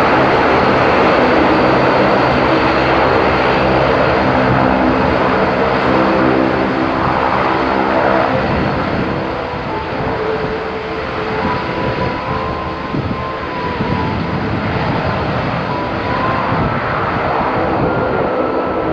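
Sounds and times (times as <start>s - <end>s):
turboprop engines droning: 0.0s - 18.9s.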